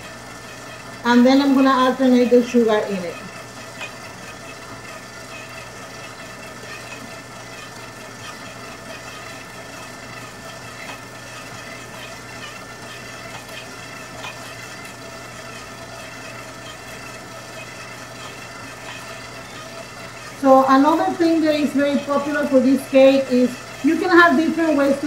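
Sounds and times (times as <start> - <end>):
stand mixer humming: 0.0 - 25.0.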